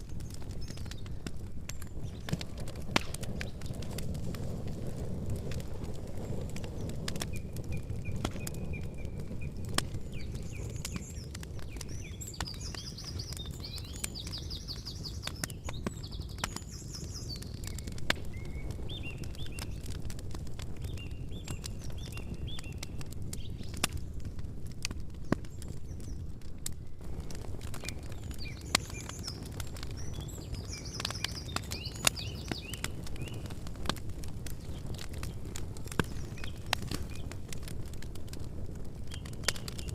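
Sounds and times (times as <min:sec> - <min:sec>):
small birds chirping: 0:00.0 - 0:04.2, 0:05.4 - 0:38.3, 0:39.0 - 0:39.9
campfire crackling and popping: 0:00.0 - 0:39.9.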